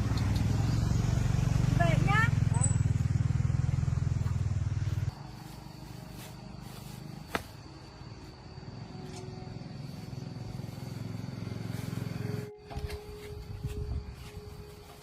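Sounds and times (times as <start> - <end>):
small motorbike engine running: 0.0 - 7.0, 9.0 - 15.0.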